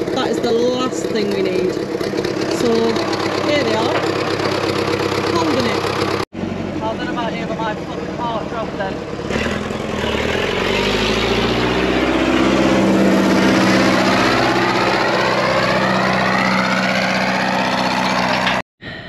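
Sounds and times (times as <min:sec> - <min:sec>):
tractor engine revving: 0:00.0 - 0:18.6.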